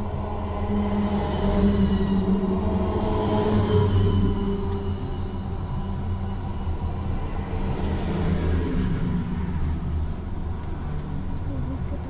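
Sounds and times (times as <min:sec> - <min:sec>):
vehicle engine and tyre rumble: 0:00.0 - 0:12.0.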